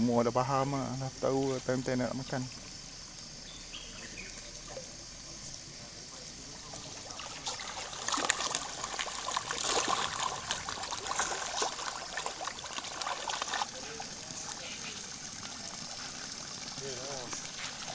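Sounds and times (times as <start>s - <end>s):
fish splashing in pond water: 2.4s - 17.9s.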